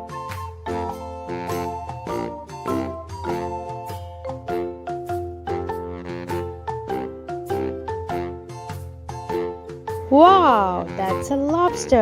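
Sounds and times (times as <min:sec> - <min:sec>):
bouncy children's tune: 0:00.0 - 0:12.0.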